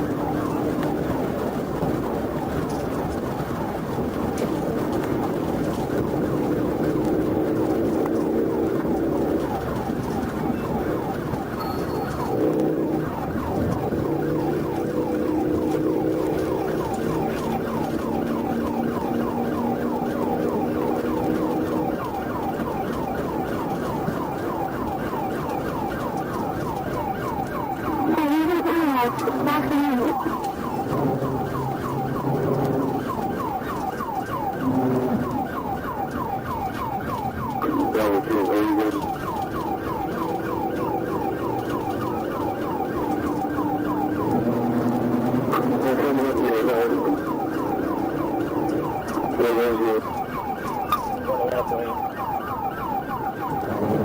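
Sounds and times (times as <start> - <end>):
police siren yelping: 0.0 - 54.0
vehicle running noise: 0.0 - 54.0.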